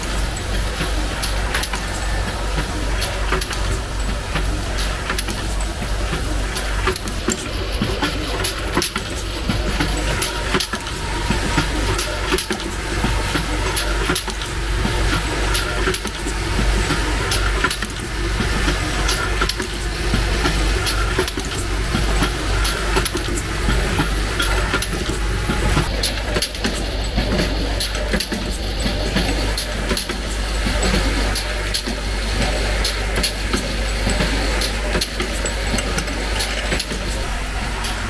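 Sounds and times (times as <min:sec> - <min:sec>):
machine clicks and clinks: 0:00.0 - 0:38.0
machine low hum: 0:00.0 - 0:38.0.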